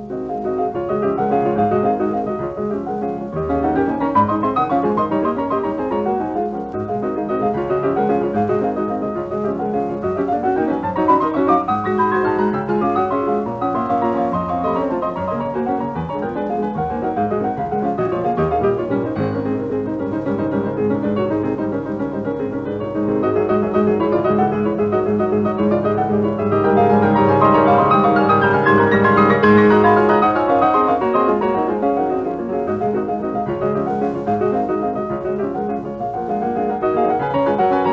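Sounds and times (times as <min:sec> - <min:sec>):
piano music: 0:00.0 - 0:37.9.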